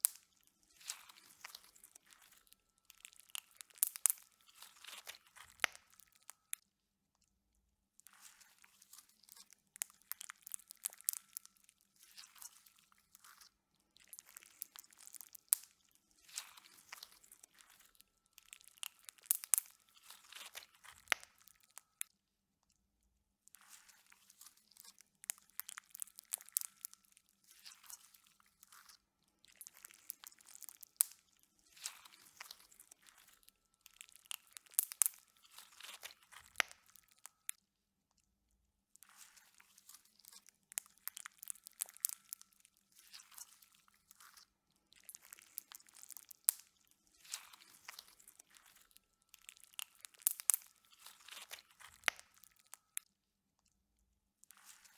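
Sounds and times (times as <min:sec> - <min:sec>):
slime squishing and crackling: 0:00.0 - 0:06.3, 0:08.2 - 0:11.5, 0:12.1 - 0:21.8, 0:23.7 - 0:27.0, 0:27.6 - 0:37.2, 0:39.1 - 0:52.9.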